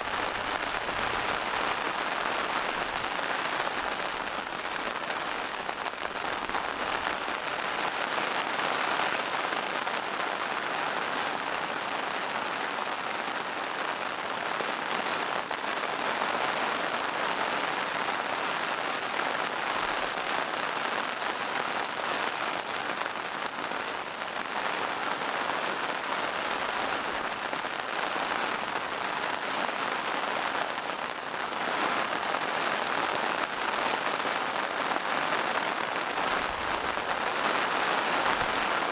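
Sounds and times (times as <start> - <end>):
rain on foliage and rocks: 0.0 - 38.9.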